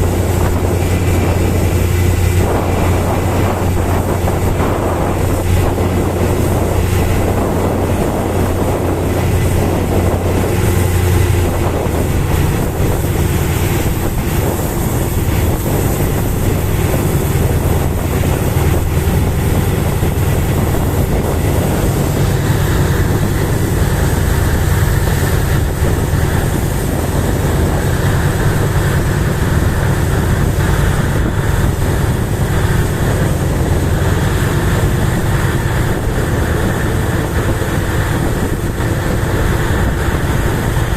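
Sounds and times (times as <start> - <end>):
sea noise: 0.0 - 40.9
ship engine drone: 0.0 - 40.9
wind: 0.0 - 40.9.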